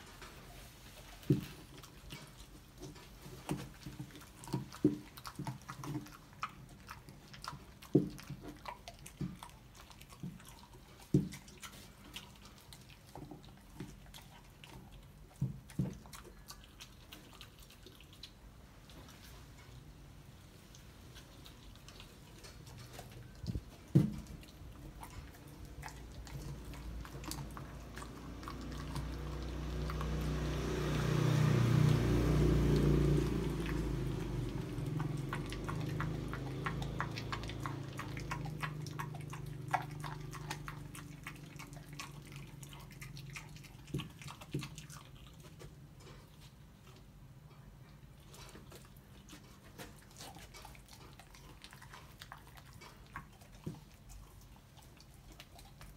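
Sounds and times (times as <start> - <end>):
puppy crunching bones: 1.0 - 19.8, 20.7 - 47.1, 48.1 - 55.9.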